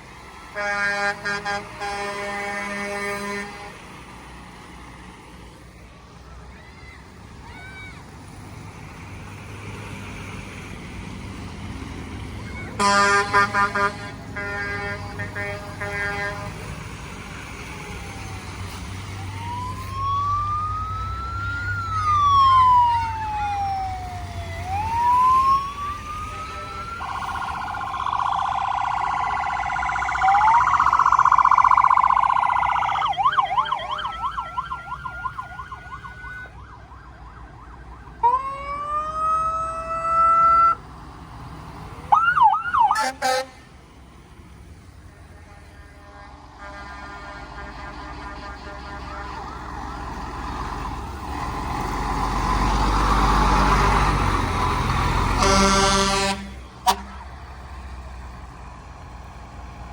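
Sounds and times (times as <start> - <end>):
emergency sirens: 0.0 - 59.9.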